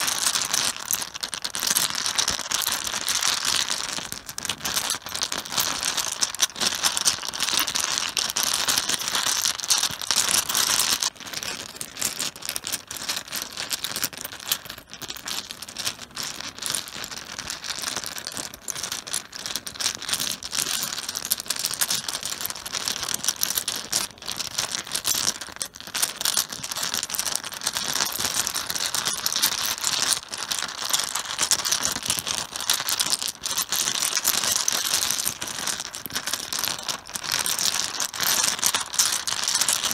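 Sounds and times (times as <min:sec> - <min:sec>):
mahjong tiles clattering on cloth: 0:00.0 - 0:16.0, 0:23.0 - 0:39.9.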